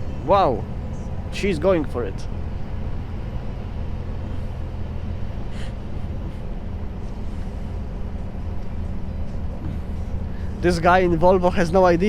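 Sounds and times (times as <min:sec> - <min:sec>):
road noise: 0:00.0 - 0:12.0
truck diesel engine pulling hard: 0:00.0 - 0:12.0.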